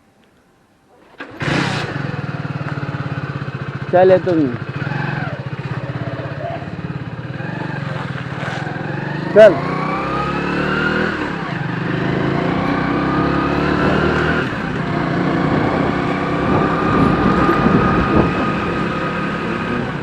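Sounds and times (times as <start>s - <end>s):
vehicle engine accelerating: 1.1s - 20.0s.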